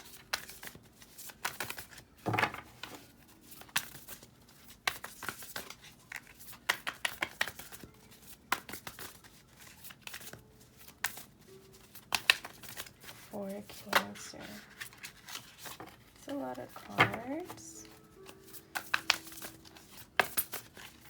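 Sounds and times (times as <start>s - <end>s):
cards being shuffled: 0.0s - 21.0s.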